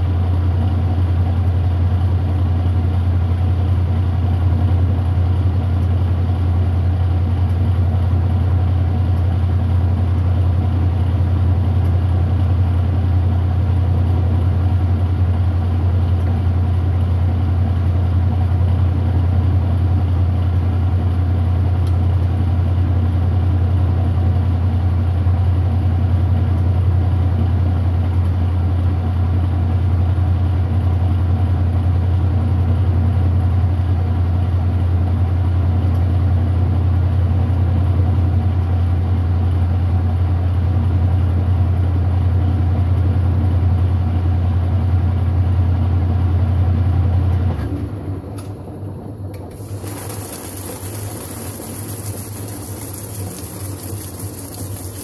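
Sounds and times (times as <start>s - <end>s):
washing machine spinning hum: 0.0s - 55.0s.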